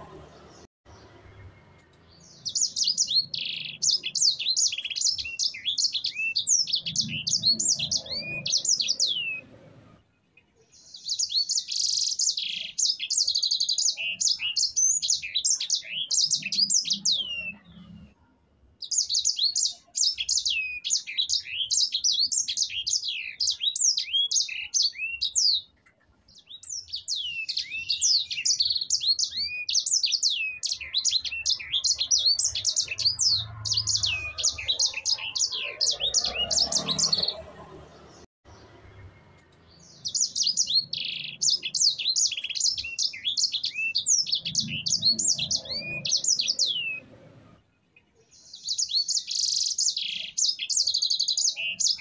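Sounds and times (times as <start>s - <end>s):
finch singing: 0.0s - 9.6s, 10.6s - 18.1s, 18.8s - 39.1s, 39.7s - 47.2s, 48.3s - 52.0s.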